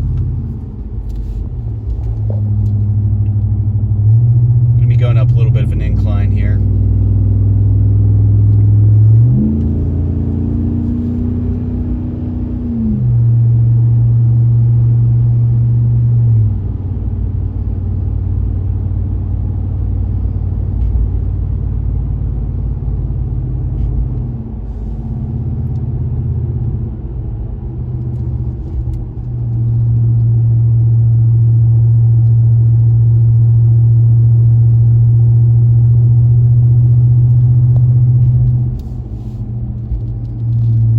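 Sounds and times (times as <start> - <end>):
truck exhaust drone: 0.0 - 40.9.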